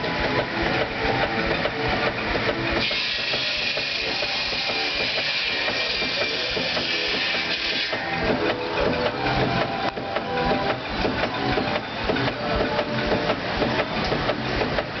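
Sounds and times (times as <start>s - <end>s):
steam engine driving a sawmill: 0.0s - 15.0s.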